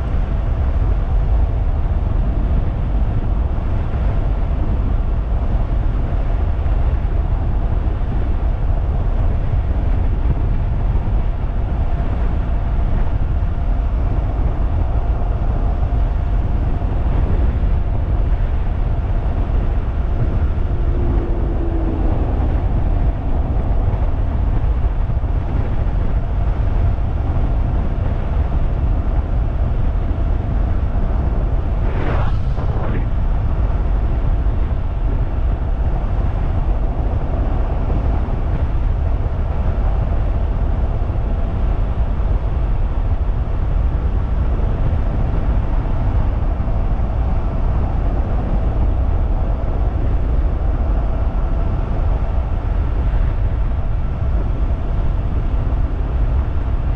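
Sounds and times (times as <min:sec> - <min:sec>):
wind rush on microphone: 0:00.0 - 0:56.9.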